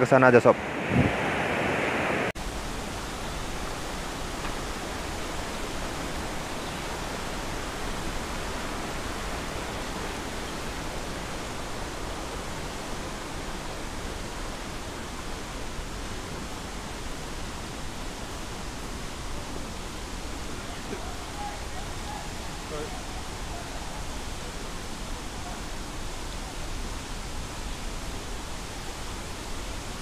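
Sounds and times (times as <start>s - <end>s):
mountain stream and waterfall rushing: 0.0s - 30.0s.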